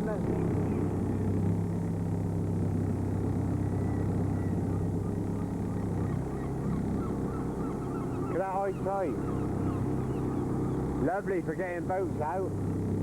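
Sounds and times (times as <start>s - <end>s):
boat engine at full throttle: 0.0s - 13.0s.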